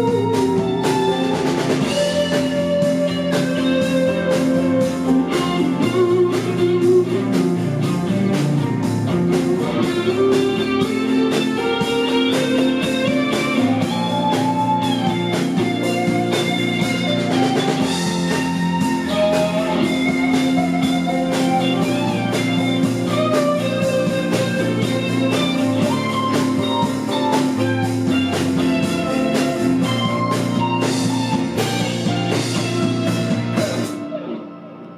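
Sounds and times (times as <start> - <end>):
steady drum beat: 0.0 - 34.2
guitar melody: 0.0 - 34.9.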